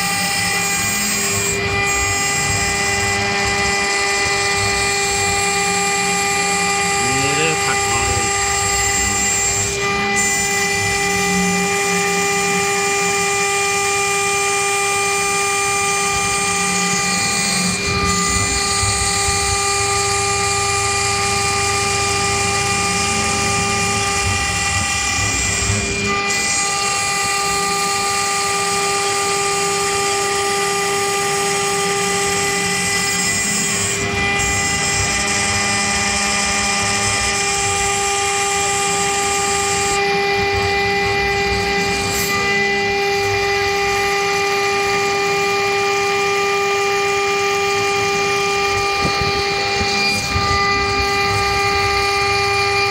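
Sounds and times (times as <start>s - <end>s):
router spindle machining whine: 0.0s - 52.9s.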